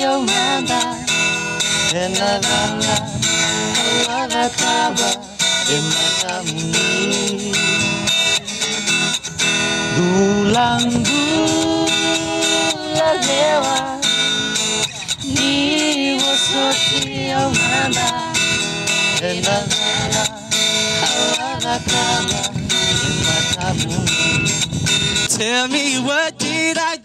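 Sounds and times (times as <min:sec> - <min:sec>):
voices singing love song: 0:00.0 - 0:09.2, 0:09.9 - 0:27.0
acoustic guitar strumming: 0:00.0 - 0:27.0.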